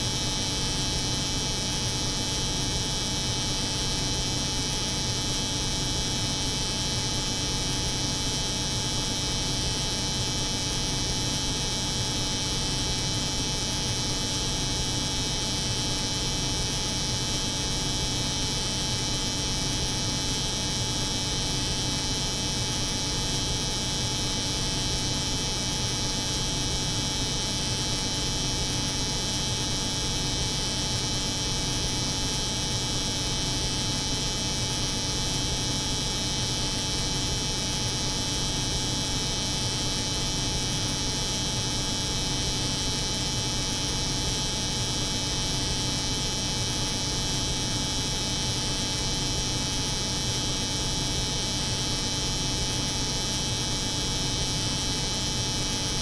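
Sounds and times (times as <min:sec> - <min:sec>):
cold room hum: 0:00.0 - 0:56.0.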